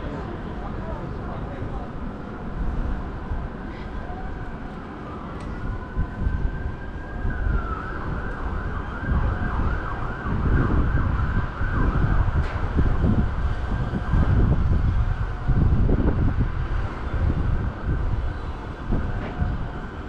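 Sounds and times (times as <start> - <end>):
wind buffeting microphone: 0.0 - 20.0
emergency siren wailing and yelping: 2.9 - 20.0.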